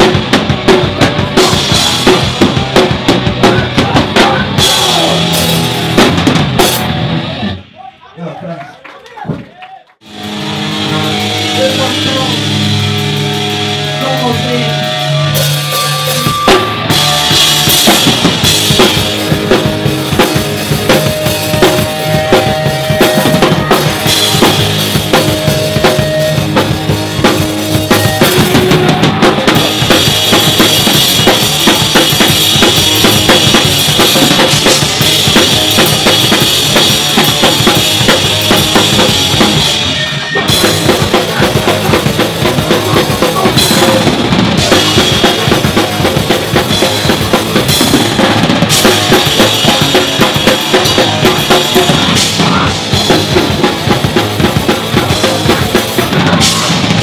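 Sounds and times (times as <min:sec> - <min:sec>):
fast dense drumming: 0:00.0 - 0:07.4, 0:10.0 - 0:57.0
hardcore punk band playing: 0:00.0 - 0:08.4, 0:10.0 - 0:57.0.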